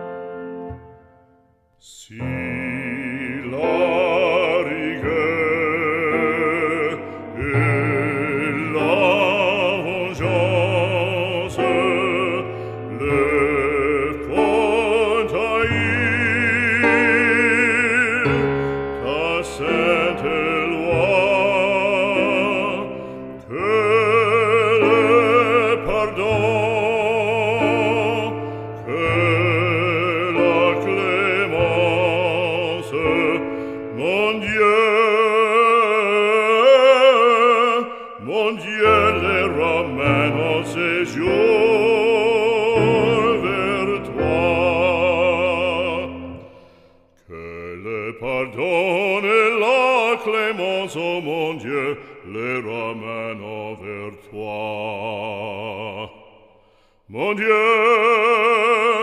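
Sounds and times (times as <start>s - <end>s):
operatic solo voice singing: 1.7s - 59.0s.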